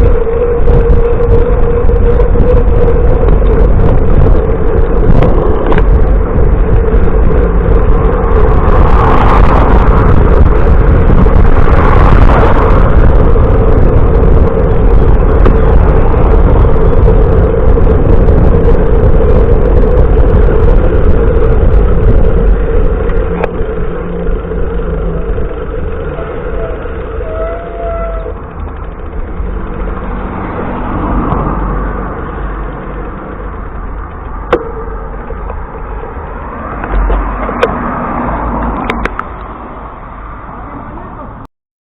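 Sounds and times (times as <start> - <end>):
road traffic rumble: 0.0 - 41.5.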